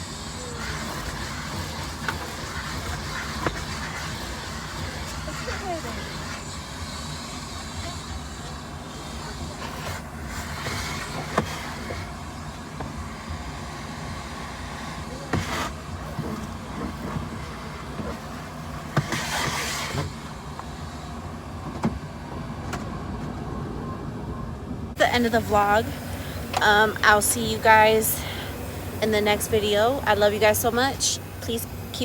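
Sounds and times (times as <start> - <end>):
car engine rumble: 0.0 - 32.0.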